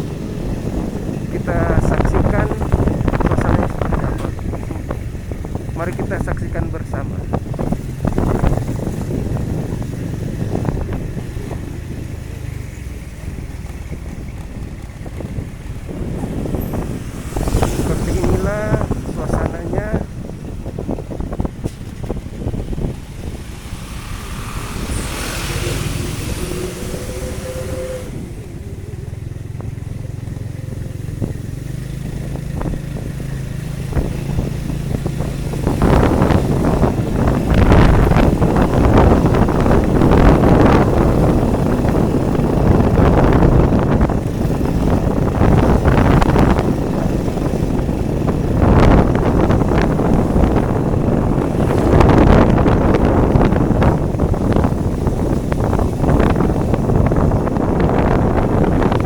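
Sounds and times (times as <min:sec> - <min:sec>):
road noise: 0:00.0 - 0:59.0
vehicle engine rumble: 0:00.0 - 0:59.0
wind buffeting microphone: 0:00.0 - 0:59.0.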